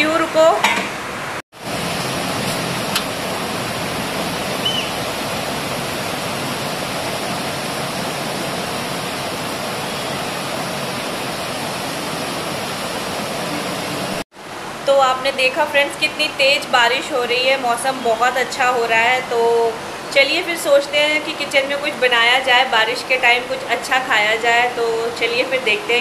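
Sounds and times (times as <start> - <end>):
heavy rain pouring: 0.4 - 26.0.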